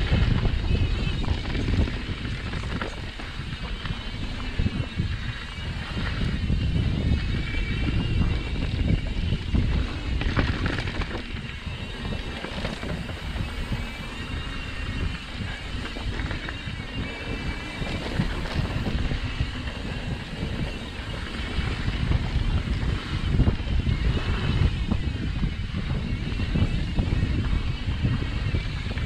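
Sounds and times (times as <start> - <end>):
tyres rumbling on dirt trail: 0.0 - 29.0
wind on microphone: 0.0 - 29.0.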